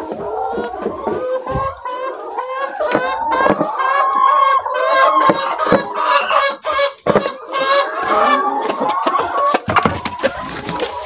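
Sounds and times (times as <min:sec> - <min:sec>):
hen clucking and squawking: 0:00.0 - 0:11.0.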